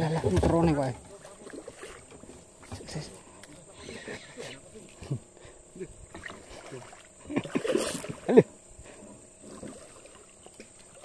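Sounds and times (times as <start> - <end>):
water moving: 0.0 - 11.0.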